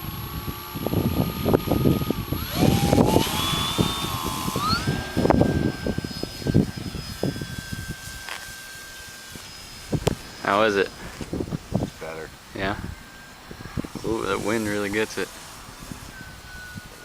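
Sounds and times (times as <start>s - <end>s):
electric motor and propeller whining: 0.0s - 17.0s
wind rumbling on microphone: 0.0s - 17.0s.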